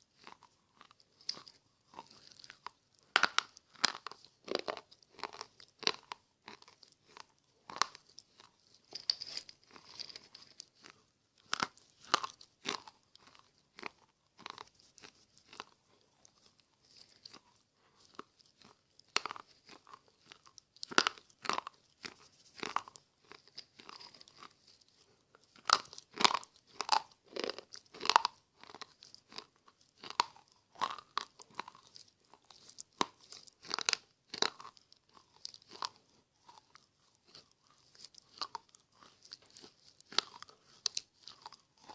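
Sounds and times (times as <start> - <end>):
person chewing crunchy slate: 0.0 - 41.9.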